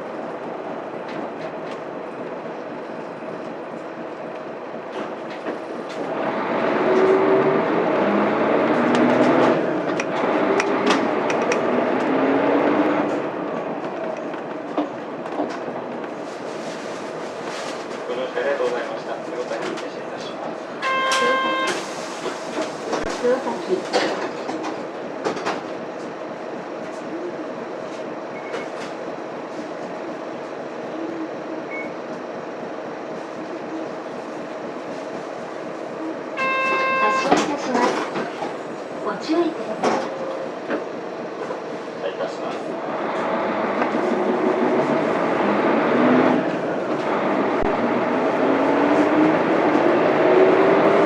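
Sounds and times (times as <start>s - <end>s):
road rumble: 0.0s - 31.0s, 32.0s - 51.0s
diesel bus engine: 0.0s - 51.0s.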